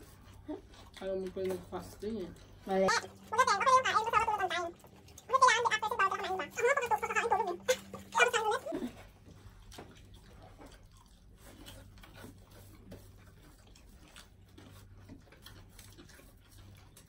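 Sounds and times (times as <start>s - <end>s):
chewing and lip smacks: 0.0s - 17.0s
low steady hum: 0.0s - 17.0s.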